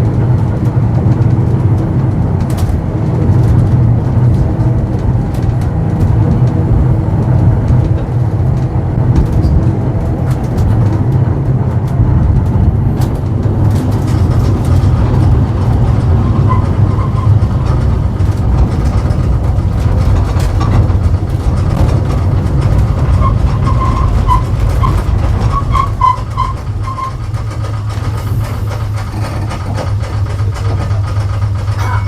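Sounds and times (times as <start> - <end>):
tram rumbling on track: 0.0 - 32.0
tram wheels squeaking: 0.0 - 32.0.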